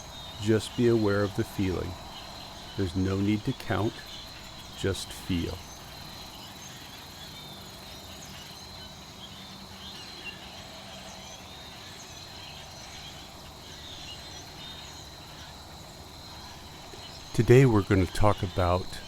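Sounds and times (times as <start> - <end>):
crickets trilling: 0.0 - 19.0
faint chirps: 0.0 - 19.0.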